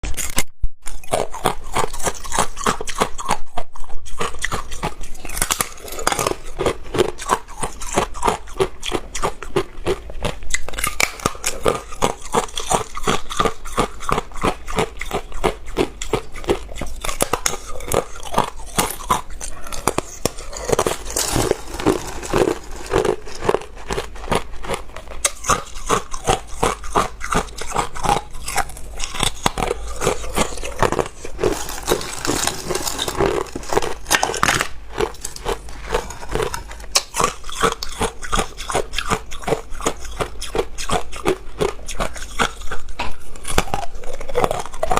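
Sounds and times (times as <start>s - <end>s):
person chewing ice: 0.0s - 44.9s.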